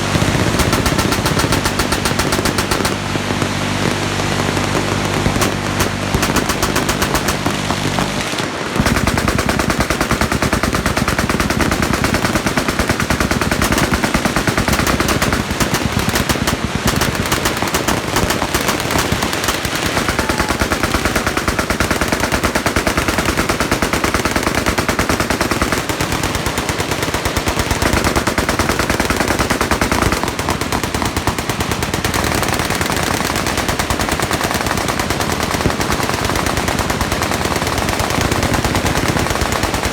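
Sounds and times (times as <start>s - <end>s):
machine guns firing: 0.0s - 39.9s.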